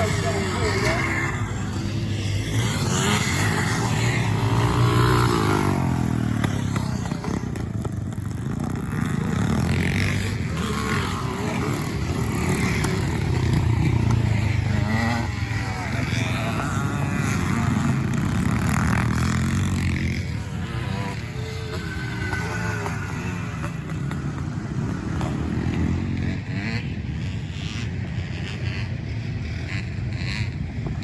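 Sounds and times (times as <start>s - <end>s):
motorcycles racing past: 0.0s - 31.0s.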